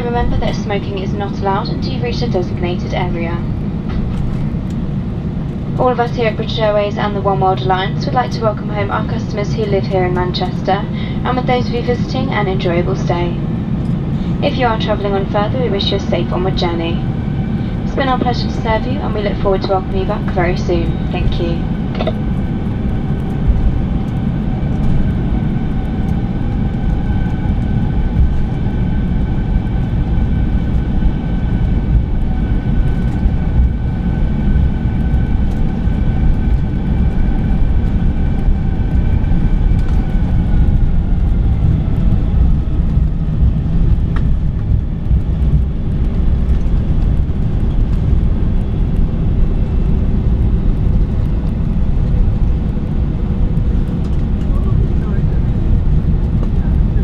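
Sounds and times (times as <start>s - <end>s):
cabin low rumble: 0.0s - 57.0s
jet engines whining: 0.0s - 57.0s.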